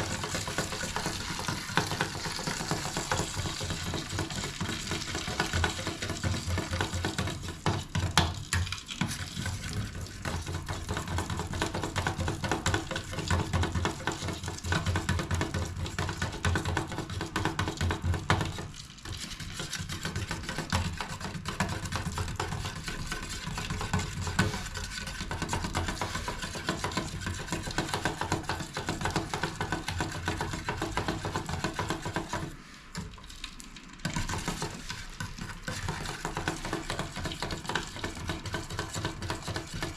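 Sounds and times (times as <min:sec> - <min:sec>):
stirring scraping in pan: 0:00.0 - 0:39.9.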